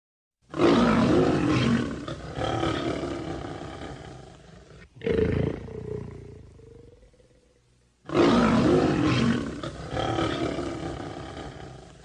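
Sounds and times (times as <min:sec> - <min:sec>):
lion roaring: 0:00.5 - 0:07.3, 0:08.1 - 0:12.0.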